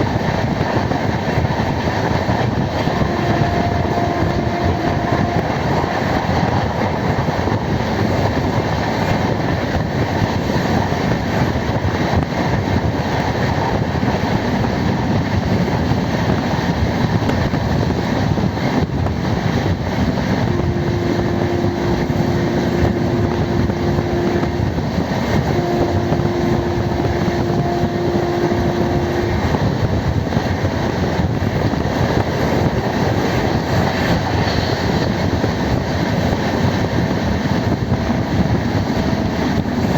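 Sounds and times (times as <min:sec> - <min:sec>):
long steady tones: 0:00.0 - 0:13.4, 0:18.5 - 0:39.9
train rumbling on rails: 0:00.0 - 0:39.9.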